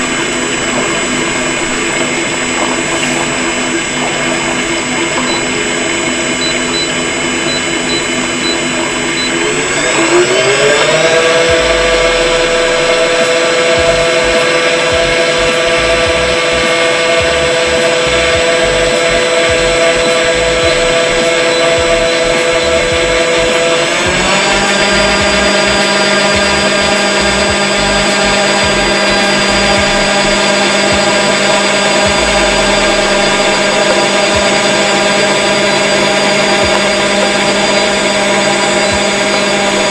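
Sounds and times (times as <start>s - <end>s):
low steady hum: 0.0s - 39.9s
mixer motor whining: 0.0s - 39.9s.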